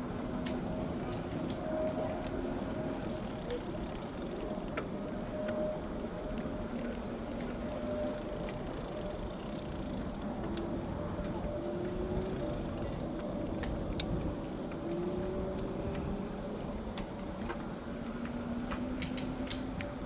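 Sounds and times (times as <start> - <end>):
faint motor whine: 0.0 - 20.0.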